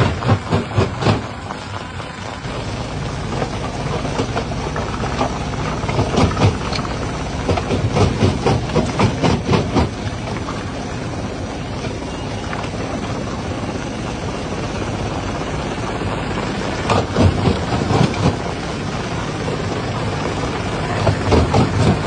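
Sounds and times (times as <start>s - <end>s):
jaw crusher machinery drone: 0.0s - 22.0s.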